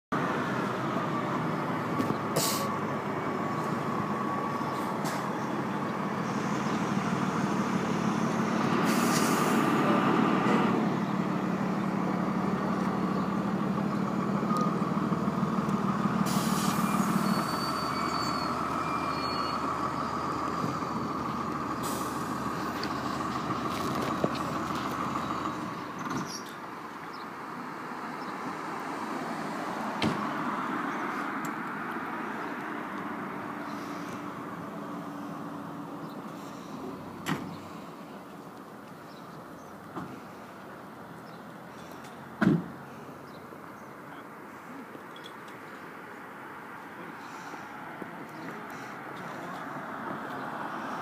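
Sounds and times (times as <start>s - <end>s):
diesel engines idling: 0.2s - 51.0s.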